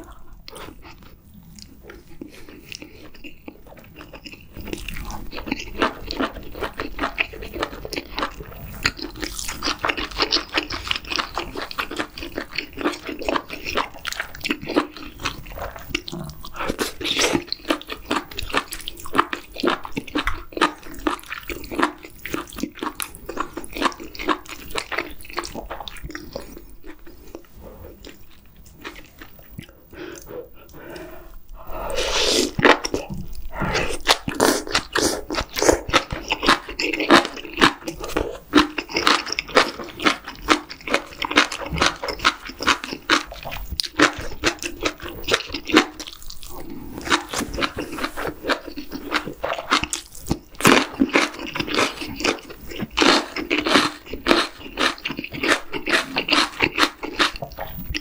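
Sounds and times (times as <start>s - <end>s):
close chewing and biting: 0.0s - 58.0s.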